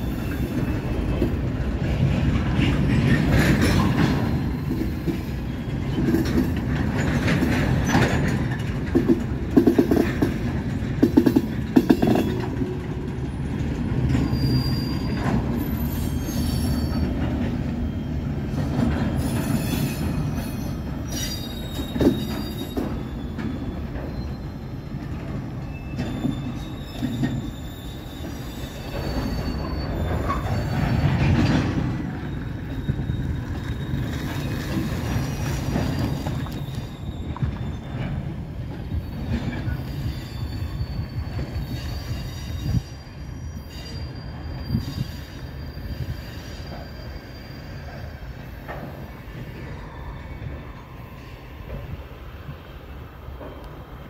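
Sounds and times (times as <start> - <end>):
freight train rumbling past: 0.0 - 54.0
train cars clanking: 0.0 - 54.0.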